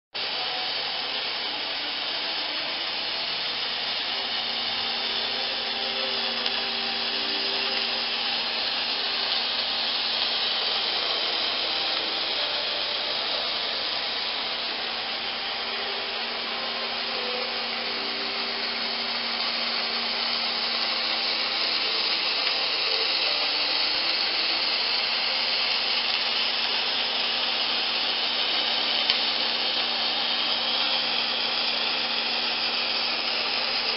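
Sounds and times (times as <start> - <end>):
faint steady hum: 0.2 - 33.9
welding arc hissing and crackling: 0.2 - 33.9.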